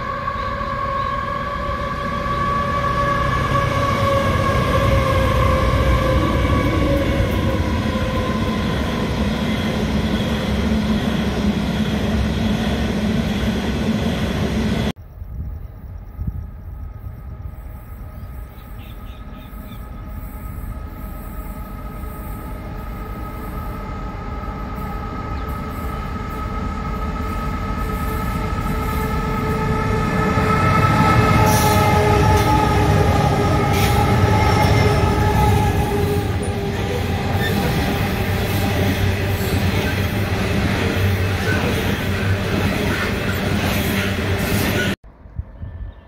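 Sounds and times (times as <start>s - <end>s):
diesel locomotive engines: 0.0s - 46.0s.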